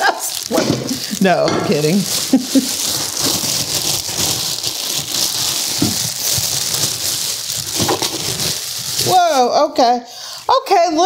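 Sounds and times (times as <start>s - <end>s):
crackling hiss: 0.0s - 9.6s.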